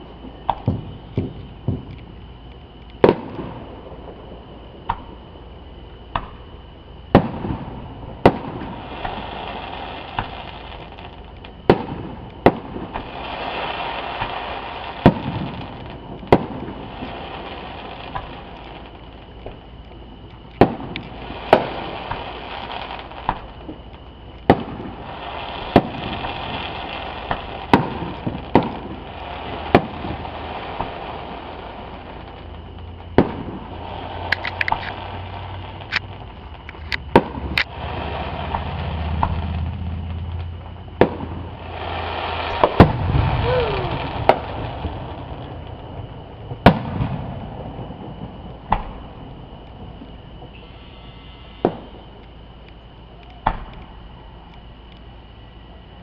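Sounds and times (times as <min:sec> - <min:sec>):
fireworks bangs: 0:00.0 - 0:02.2, 0:03.0 - 0:05.4, 0:06.1 - 0:52.5
fireworks crackling: 0:00.0 - 0:56.0.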